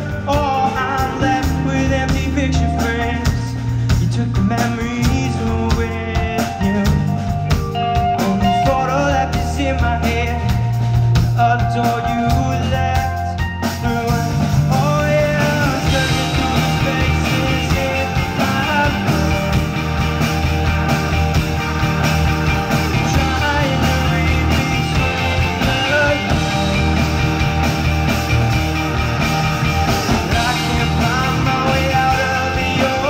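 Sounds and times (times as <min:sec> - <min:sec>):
rock band playing live: 0:00.0 - 0:33.0.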